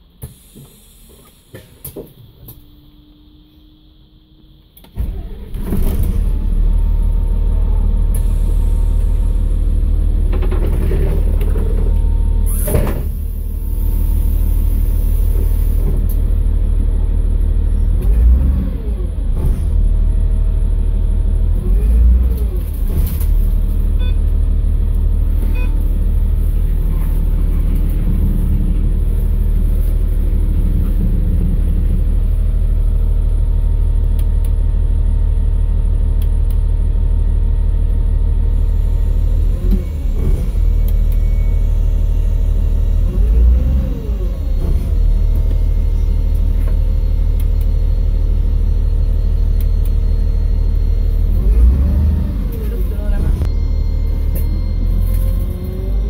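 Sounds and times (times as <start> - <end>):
bus diesel engine idling and revving: 0.0 - 56.0.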